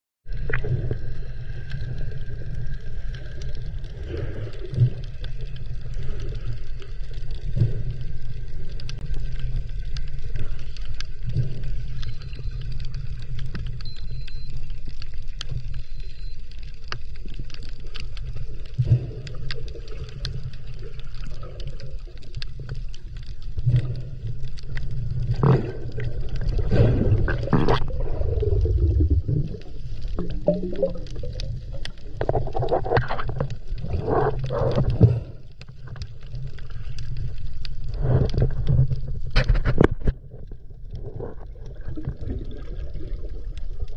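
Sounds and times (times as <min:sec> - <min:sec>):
water surges: 0:00.3 - 0:39.3, 0:40.8 - 0:43.9
clicks and crackles: 0:00.3 - 0:43.9
underwater rumble of moving water: 0:00.3 - 0:43.9.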